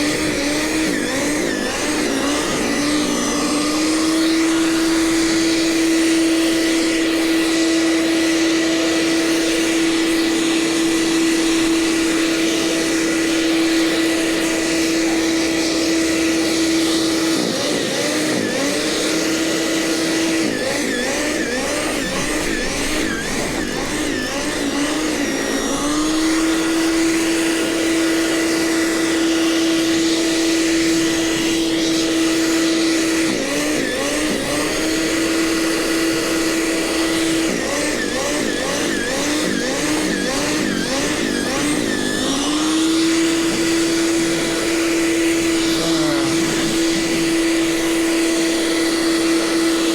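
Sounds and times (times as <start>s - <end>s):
snowblower engine running: 0.0s - 49.9s.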